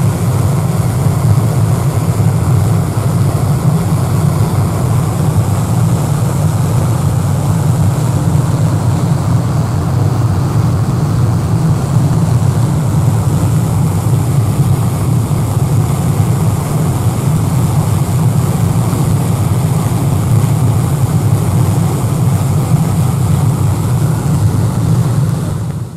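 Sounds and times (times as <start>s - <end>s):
propeller wash churning: 0.0s - 25.9s.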